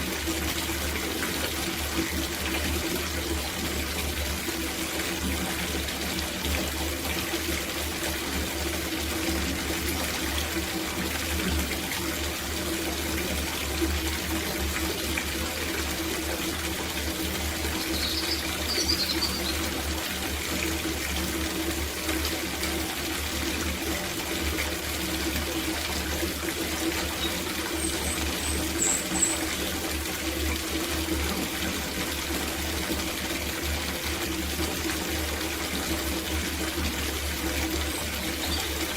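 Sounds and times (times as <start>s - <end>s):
tap water filling a bathtub: 0.0s - 38.9s.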